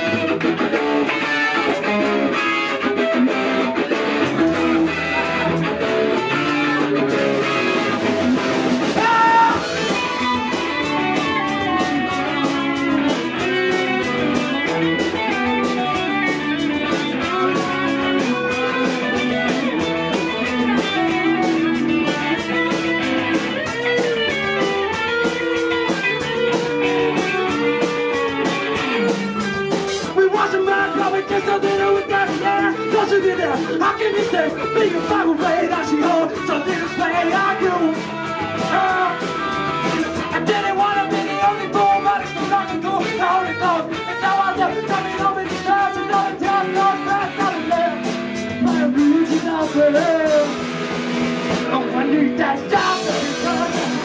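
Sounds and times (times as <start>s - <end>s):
live rock band playing: 0.0s - 54.0s
strummed electric guitar chords: 0.0s - 54.0s.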